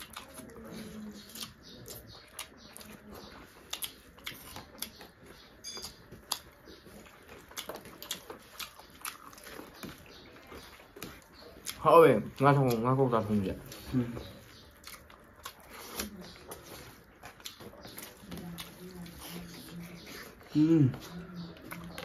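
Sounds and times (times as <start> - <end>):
chewing and wet lip smacks: 0.0 - 13.0, 13.6 - 20.5.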